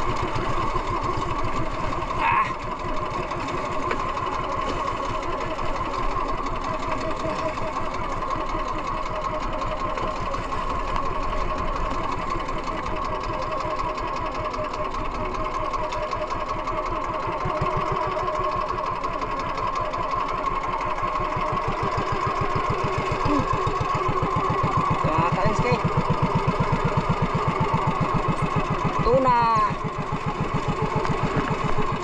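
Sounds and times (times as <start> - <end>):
boat engine chugging: 0.0 - 32.0.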